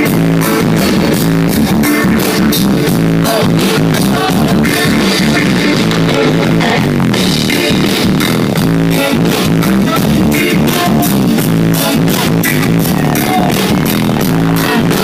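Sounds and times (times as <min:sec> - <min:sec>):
live reggae band playing: 0:00.0 - 0:15.0.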